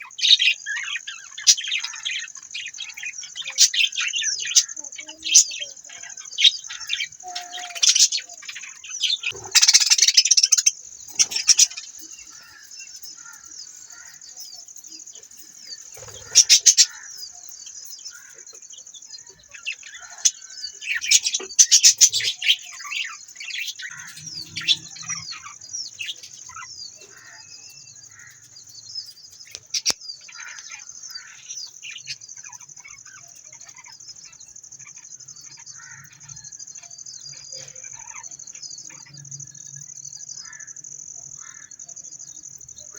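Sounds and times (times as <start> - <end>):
budgerigars chattering: 0.0 - 14.2, 15.8 - 17.5, 18.1 - 28.6, 29.4 - 39.1.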